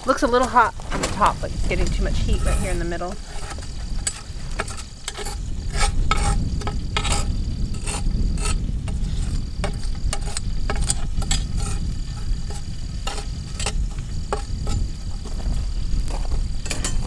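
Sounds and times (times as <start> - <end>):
tongs scraping charcoal on metal: 0.0 - 17.0.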